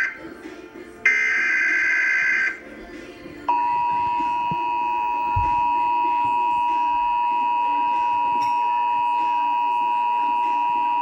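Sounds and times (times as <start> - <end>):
steady two-tone alarm tone: 1.0 - 2.6, 3.5 - 11.0.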